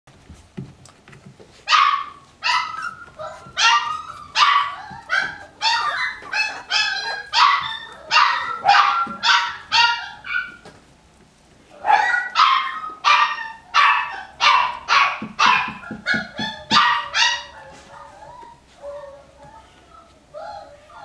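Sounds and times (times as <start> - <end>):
puppies yipping: 1.6 - 10.7, 11.8 - 21.0.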